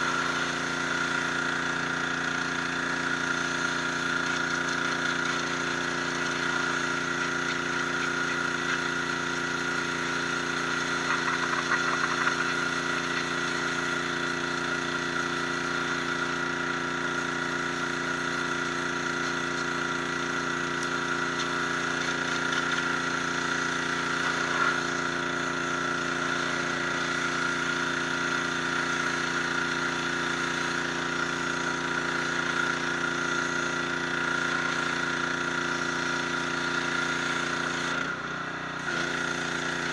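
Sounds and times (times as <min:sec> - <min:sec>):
water jet hissing on stone: 0:00.0 - 0:38.0, 0:38.8 - 0:39.9
pressure washer motor drone: 0:00.0 - 0:39.9.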